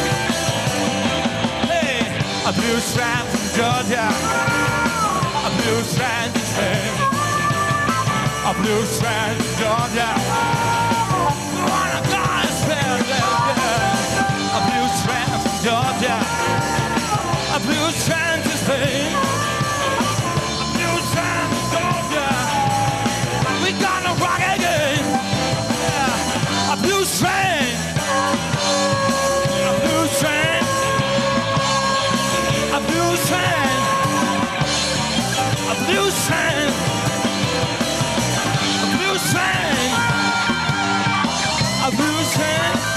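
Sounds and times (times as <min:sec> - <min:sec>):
blues-rock band playing live: 0:00.0 - 0:42.9
male lead singer: 0:00.0 - 0:42.9.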